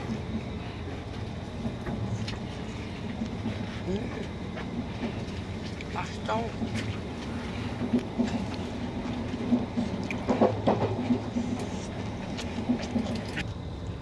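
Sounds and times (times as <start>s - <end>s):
train rumbling inside carriage: 0.0s - 14.0s.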